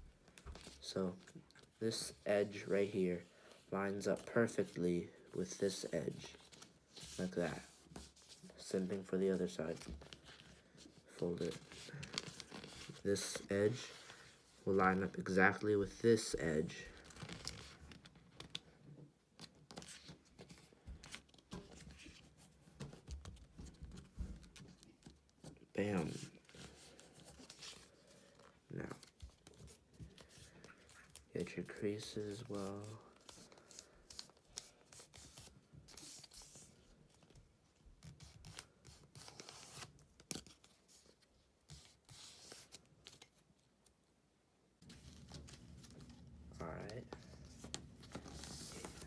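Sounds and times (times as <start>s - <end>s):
paper being folded: 5.4s - 18.6s, 19.4s - 37.4s, 38.0s - 43.4s, 44.8s - 49.0s.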